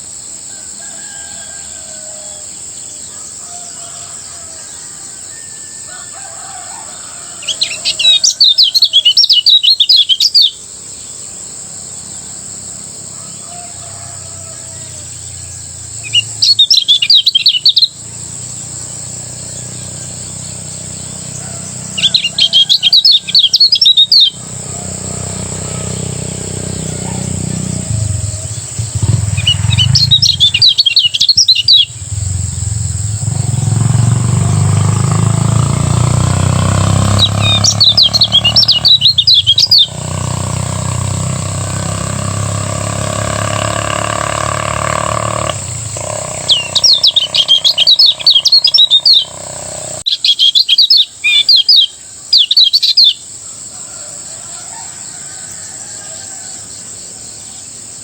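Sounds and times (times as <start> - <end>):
bird twittering: 1.7 - 11.2, 14.3 - 53.2.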